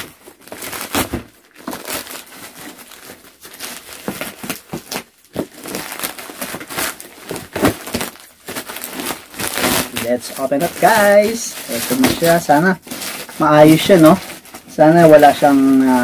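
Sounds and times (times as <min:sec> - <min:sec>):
plastic mailer crinkling: 0:00.0 - 0:16.0.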